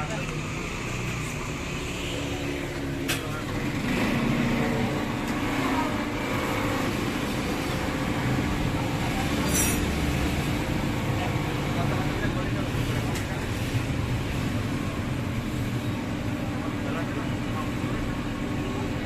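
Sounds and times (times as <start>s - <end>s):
two-stroke engine running: 0.0s - 19.0s.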